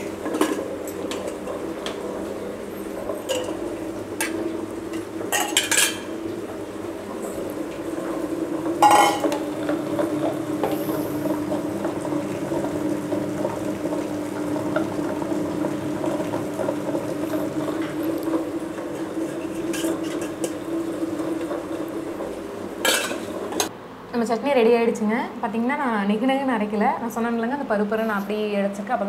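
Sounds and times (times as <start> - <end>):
wet grinder running: 0.0 - 23.7.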